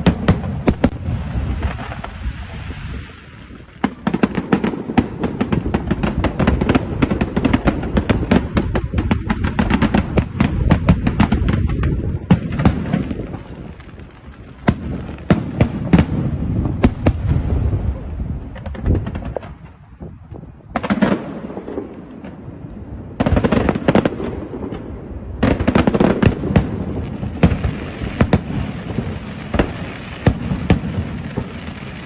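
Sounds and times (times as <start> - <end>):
fireworks cracking: 0.0 - 32.0.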